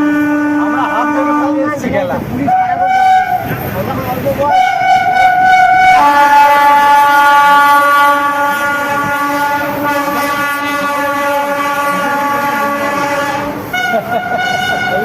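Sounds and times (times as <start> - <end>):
train horn long note: 0.0 - 1.7, 2.5 - 3.5, 4.5 - 15.0.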